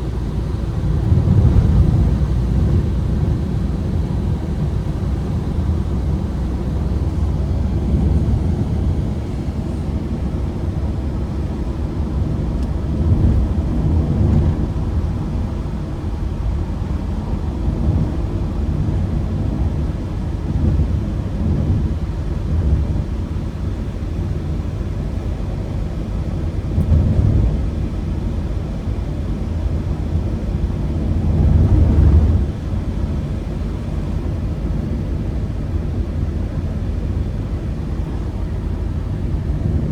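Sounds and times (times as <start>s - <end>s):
road noise: 0.0s - 39.9s
van engine rumble: 0.0s - 39.9s.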